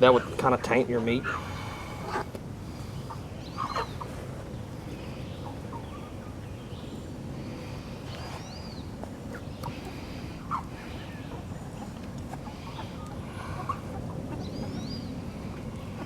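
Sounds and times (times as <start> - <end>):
chickens chirping and clucking: 0.0 - 16.0
low background noise: 0.0 - 16.0.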